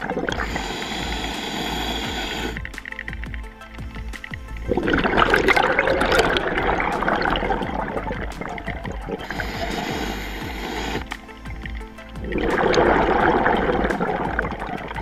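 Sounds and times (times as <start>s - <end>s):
soft background music: 0.0s - 15.0s
underwater air bubbles gurgling: 0.0s - 15.0s.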